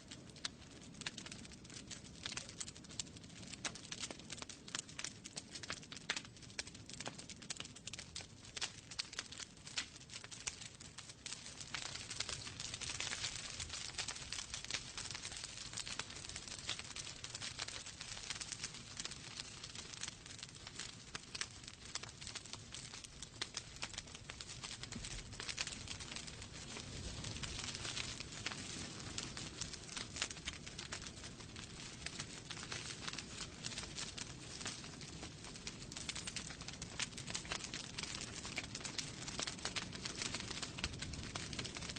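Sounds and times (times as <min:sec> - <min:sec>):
flames hissing and rumbling: 0:00.0 - 0:41.9
wood fire crackling and popping: 0:00.0 - 0:41.9.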